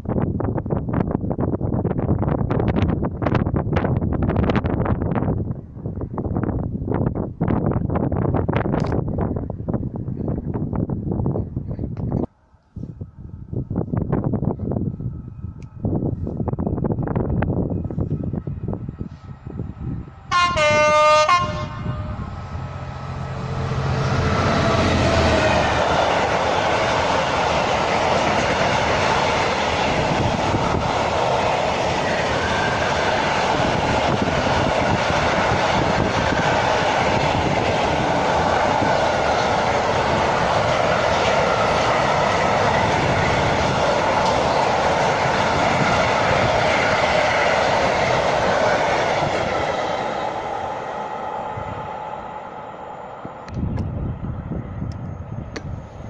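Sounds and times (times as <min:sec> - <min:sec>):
train passing on rails: 0:00.0 - 0:56.0.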